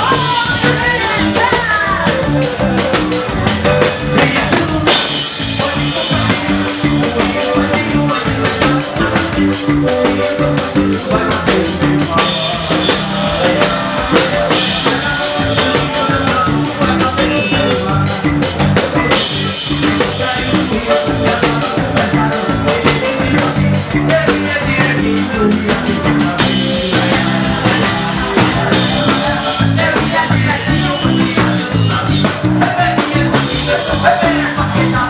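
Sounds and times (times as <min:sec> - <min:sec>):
band playing: 0:00.0 - 0:35.0
drum kit beat: 0:00.0 - 0:35.0.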